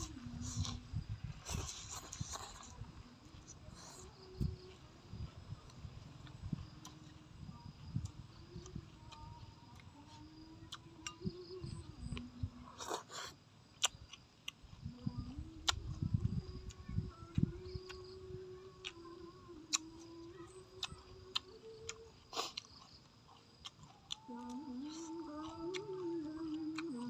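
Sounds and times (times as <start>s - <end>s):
man chewing food: 0.0s - 7.2s, 7.8s - 11.3s, 12.2s - 18.0s, 19.7s - 27.0s
faint insect drone: 0.0s - 27.0s.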